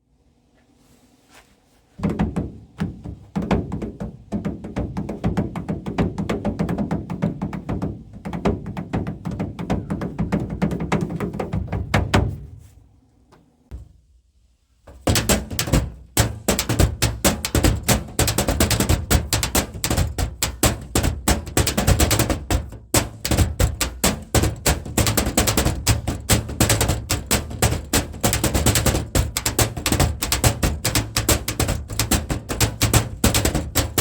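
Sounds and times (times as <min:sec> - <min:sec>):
hand drumming on household object: 0:02.0 - 0:12.5, 0:14.9 - 0:34.0.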